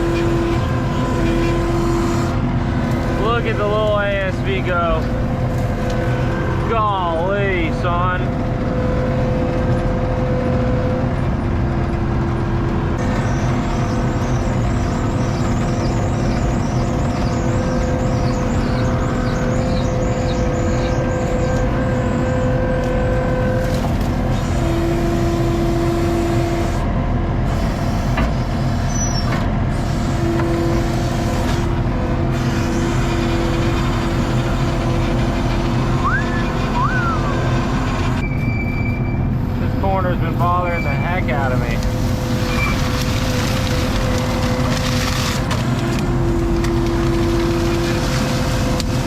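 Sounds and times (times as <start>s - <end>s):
hydraulics whining: 0.0s - 49.0s
track loader engine running: 0.0s - 49.0s.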